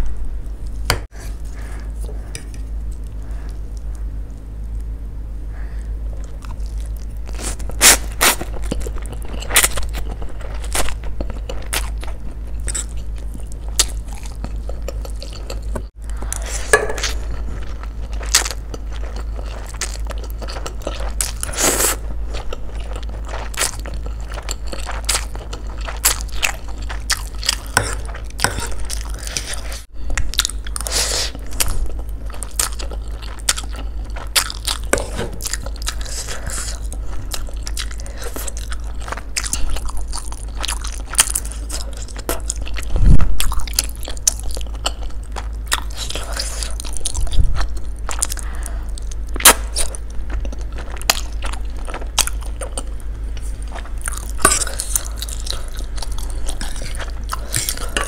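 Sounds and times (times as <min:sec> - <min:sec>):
steady low hum: 0:00.0 - 0:58.0
person slurping and chewing: 0:06.3 - 0:58.0.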